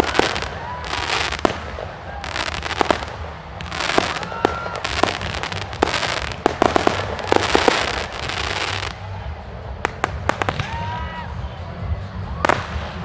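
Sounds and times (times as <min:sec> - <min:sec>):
fireworks bangs: 0:00.0 - 0:11.1, 0:12.4 - 0:13.0
dense fireworks hiss: 0:00.0 - 0:13.0.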